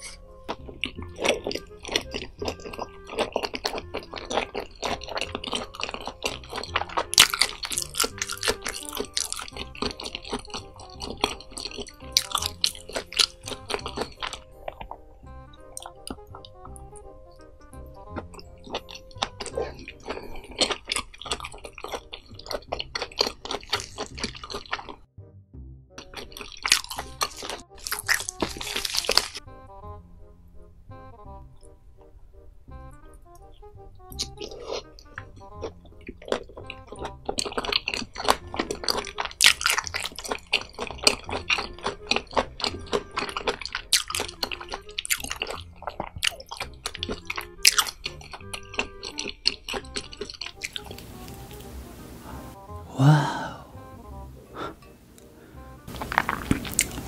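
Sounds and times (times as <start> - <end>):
wet chewing of food: 0.0 - 25.1, 26.0 - 29.4, 33.0 - 53.4, 54.1 - 57.0.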